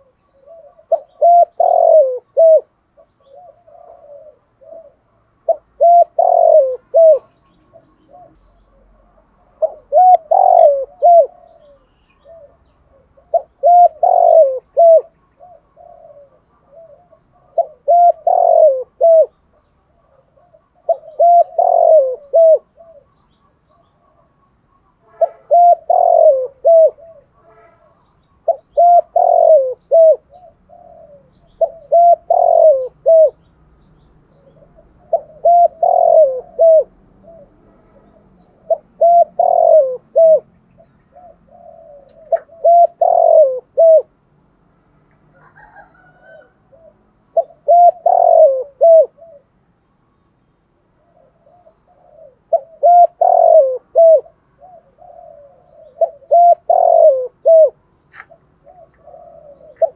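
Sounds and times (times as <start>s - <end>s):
dove cooing: 0.0s - 44.2s, 45.3s - 49.6s, 50.9s - 59.9s.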